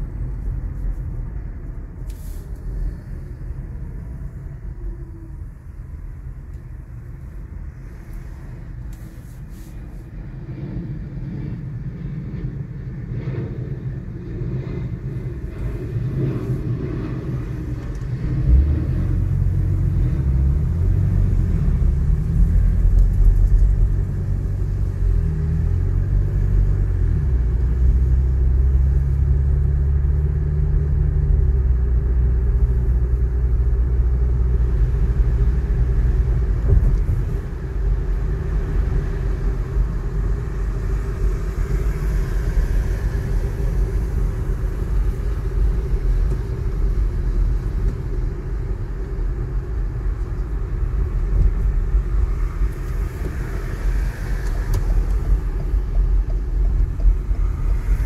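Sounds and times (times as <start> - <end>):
car engine and tyres rumbling: 0.0 - 58.0
low humming drone: 0.0 - 58.0.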